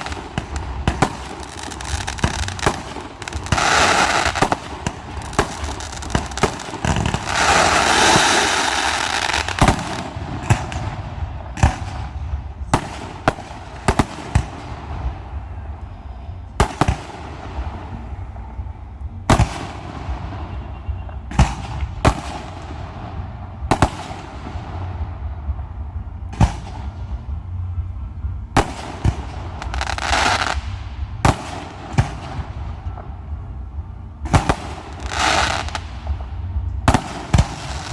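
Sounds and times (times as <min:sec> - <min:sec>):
fireworks bangs: 0:00.0 - 0:15.7, 0:16.6 - 0:18.2, 0:19.3 - 0:27.3, 0:28.6 - 0:33.4, 0:34.2 - 0:37.9
fireworks crackling hiss: 0:00.0 - 0:27.4, 0:28.6 - 0:37.9
low rumble: 0:00.0 - 0:37.9.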